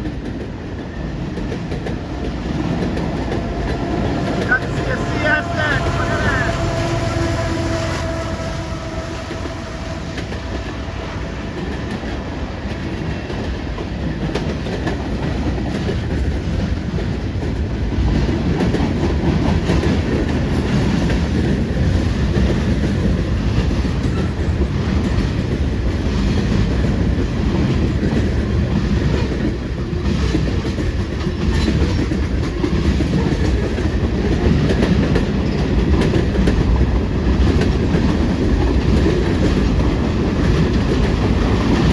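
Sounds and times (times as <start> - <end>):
freight train rumbling: 0.0 - 41.9
wheels clacking over rail joints: 0.0 - 41.9.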